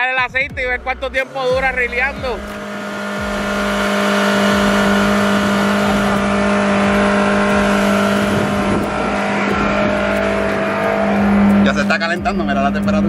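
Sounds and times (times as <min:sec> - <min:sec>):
car engine droning at high revs: 0:00.6 - 0:13.0.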